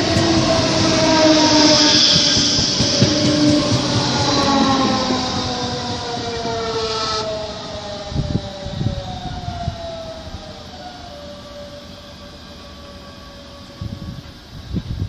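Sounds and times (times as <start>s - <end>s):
electric train drive whining: 0.0s - 15.0s
train wheels rushing: 0.0s - 15.0s.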